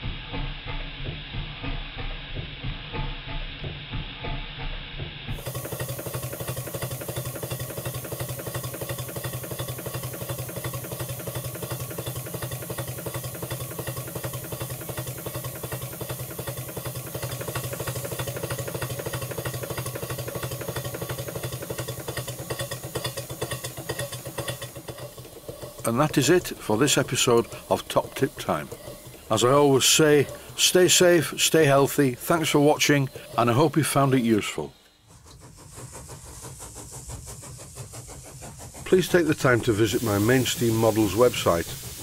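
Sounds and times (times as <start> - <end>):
model steam engine running: 0.0 - 42.0.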